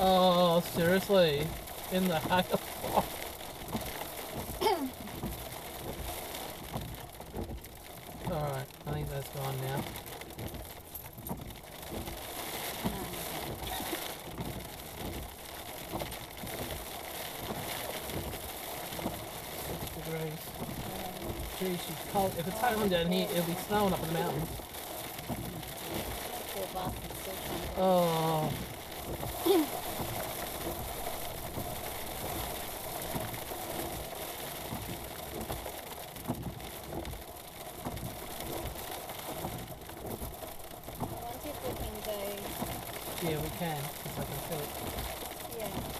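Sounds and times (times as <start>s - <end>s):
hail and rain on car roof: 0.0s - 45.9s.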